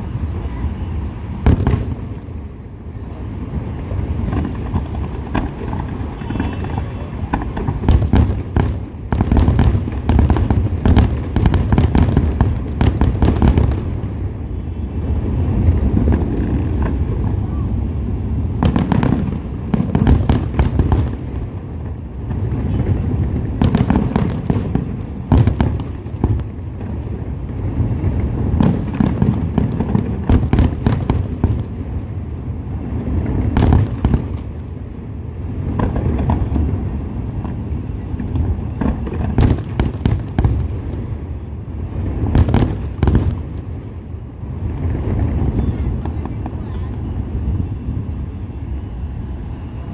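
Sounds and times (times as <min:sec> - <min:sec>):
firework bangs and crackles: 0:00.0 - 0:49.9.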